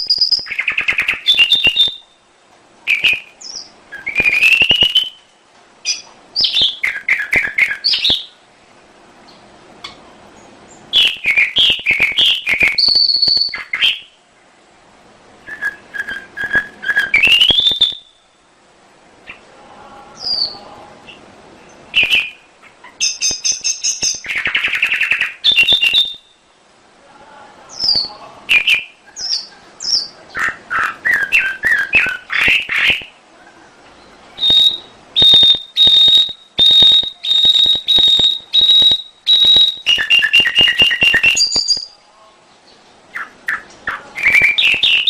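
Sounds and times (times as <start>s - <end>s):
canary singing: 0.0s - 8.4s, 9.2s - 14.2s, 15.4s - 18.5s, 19.2s - 26.5s, 27.7s - 45.0s.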